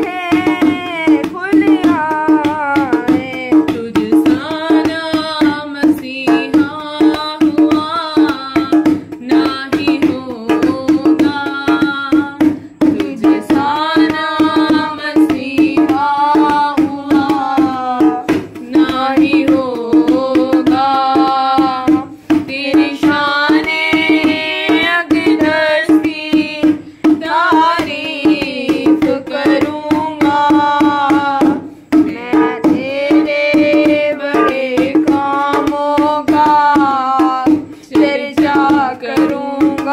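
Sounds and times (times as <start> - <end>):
person singing: 0.0 - 39.9
tabla: 0.0 - 39.9.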